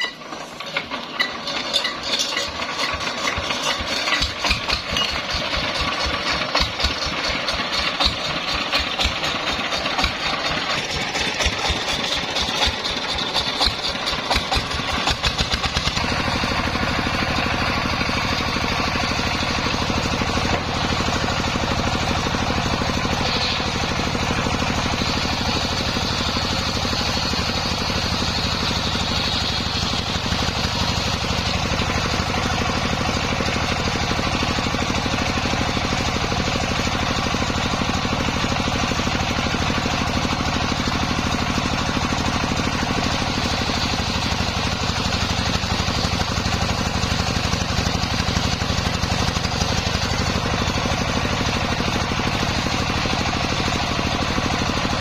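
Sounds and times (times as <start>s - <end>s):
saw engine running unevenly: 0.0s - 55.0s.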